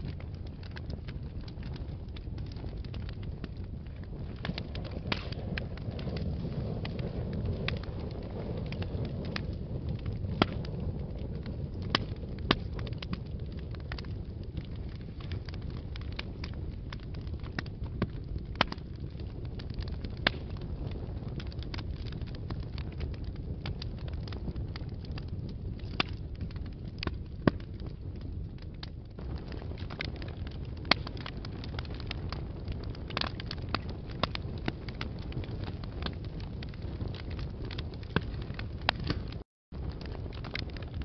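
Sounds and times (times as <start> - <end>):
logs crackling and popping: 0.0 - 41.0
rumble of flames: 0.0 - 41.0.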